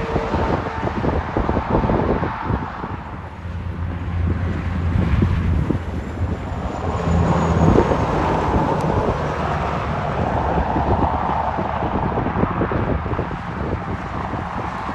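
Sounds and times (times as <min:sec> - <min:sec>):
truck engine drone: 0:00.0 - 0:14.9.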